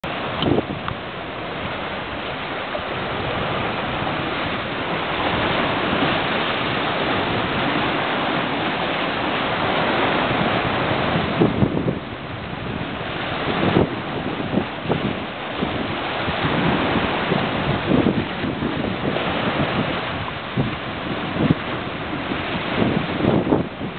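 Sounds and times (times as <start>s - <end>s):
ocean surf on rocky shore: 0.0s - 23.9s
wind on microphone: 0.0s - 23.9s.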